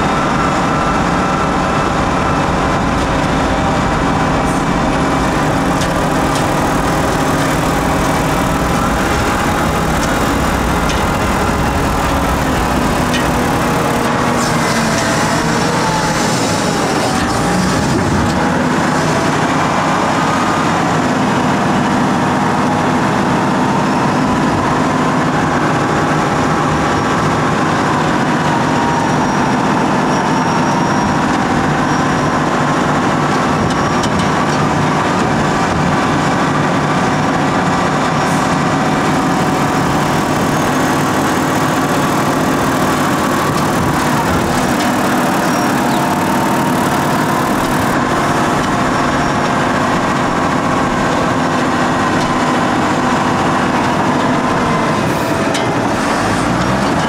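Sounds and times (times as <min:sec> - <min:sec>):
diesel loader engine running: 0:00.0 - 0:57.0
engine whine: 0:00.0 - 0:57.0.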